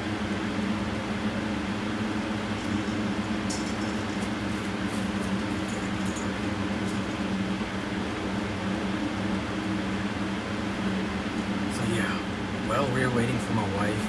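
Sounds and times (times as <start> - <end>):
machine running with airy hiss: 0.0 - 14.0.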